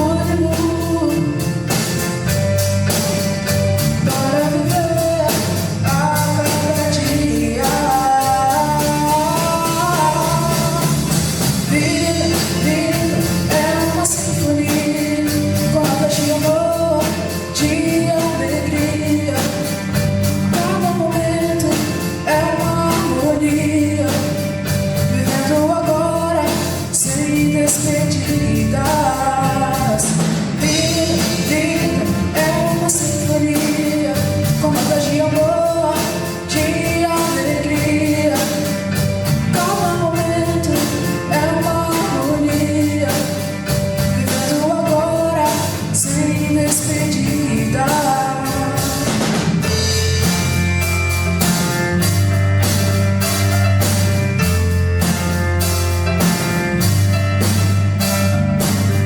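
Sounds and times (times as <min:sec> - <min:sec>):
lead vocal singing: 0:00.0 - 0:50.5
pop-rock band playing: 0:00.0 - 0:59.0.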